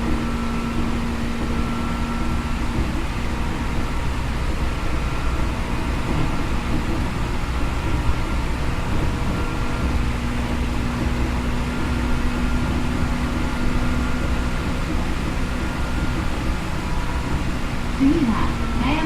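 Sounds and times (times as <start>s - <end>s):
steady hum: 0.0s - 19.0s
train wheels rumbling: 0.0s - 19.0s.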